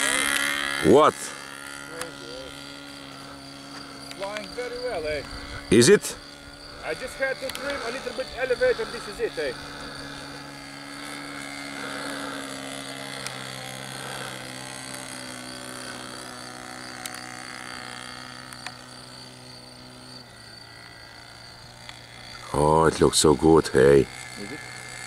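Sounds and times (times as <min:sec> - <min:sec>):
model plane engine droning: 0:00.0 - 0:25.0.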